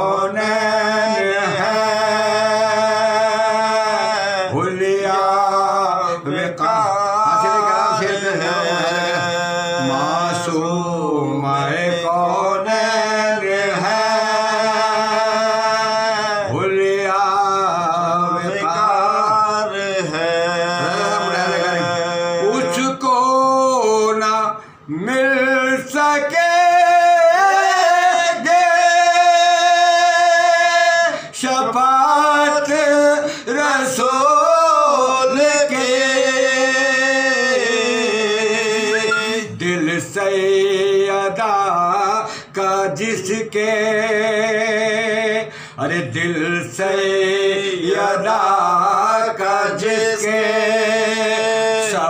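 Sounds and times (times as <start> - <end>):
men chanting unaccompanied: 0.0 - 52.0.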